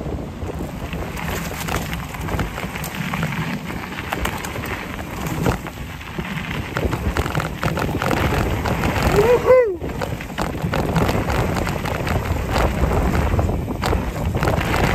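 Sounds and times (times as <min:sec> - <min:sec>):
bike tyres crunching on dirt: 0:00.0 - 0:14.9
small clicks and rattles: 0:00.5 - 0:14.9.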